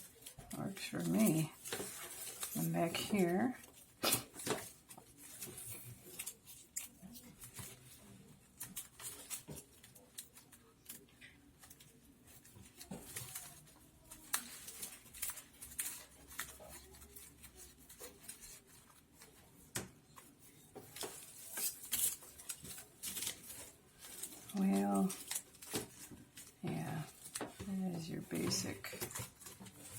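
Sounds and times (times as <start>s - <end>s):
palm-leaf strips rustling: 0.0s - 29.9s.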